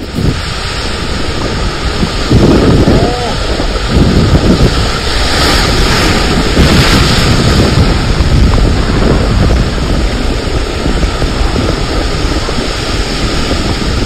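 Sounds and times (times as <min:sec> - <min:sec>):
surf breaking: 0:00.0 - 0:14.0
wind buffeting microphone: 0:00.0 - 0:14.0.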